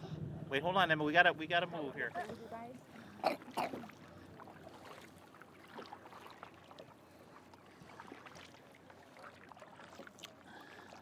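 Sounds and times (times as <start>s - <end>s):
paddle splashes and drips: 2.1s - 11.0s.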